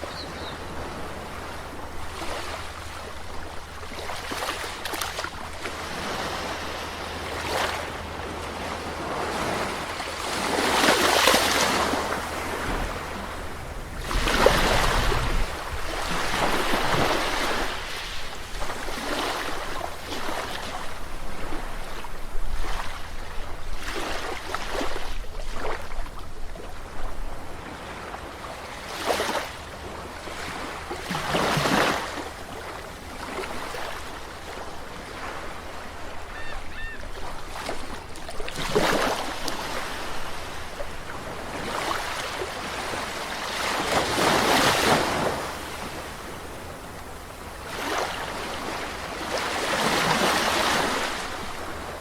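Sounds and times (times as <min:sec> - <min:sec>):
small waves breaking on shore: 0:00.0 - 0:52.0.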